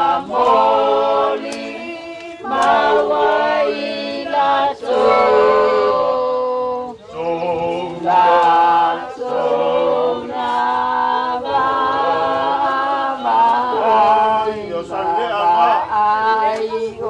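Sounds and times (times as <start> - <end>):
choir singing unaccompanied: 0.0 - 17.0.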